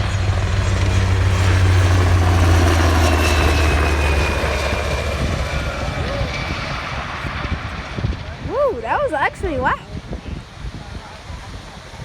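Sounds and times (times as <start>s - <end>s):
helicopter high whine: 0.0s - 11.9s
helicopter rotor beat: 0.0s - 12.0s.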